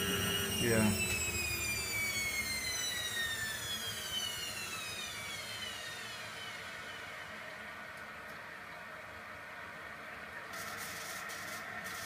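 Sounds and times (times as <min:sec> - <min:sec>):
washing machine motor whine: 0:00.0 - 0:09.5, 0:10.4 - 0:12.0.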